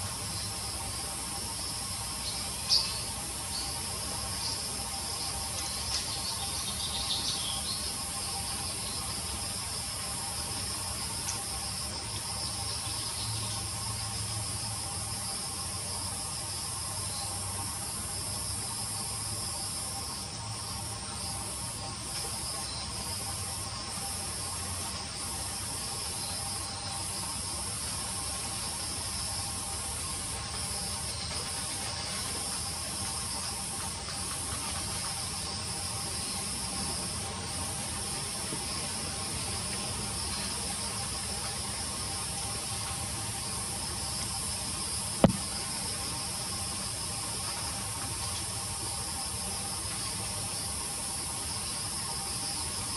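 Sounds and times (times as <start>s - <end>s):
constant hiss: 0.0s - 52.9s
high-pitched insect chorus: 0.0s - 52.9s.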